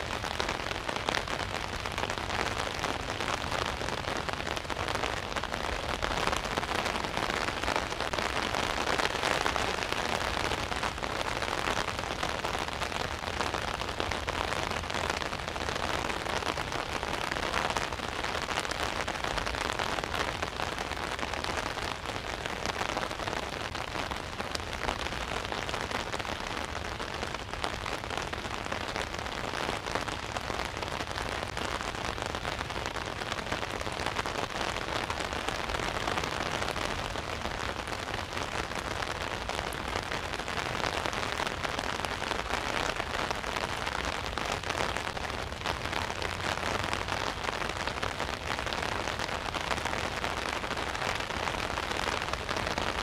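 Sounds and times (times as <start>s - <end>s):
rain on an umbrella: 0.0s - 53.0s.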